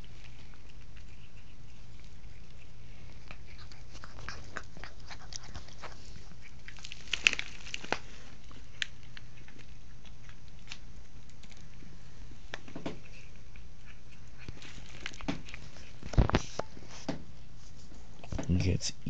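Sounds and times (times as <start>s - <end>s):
cat chewing: 0.0s - 18.3s.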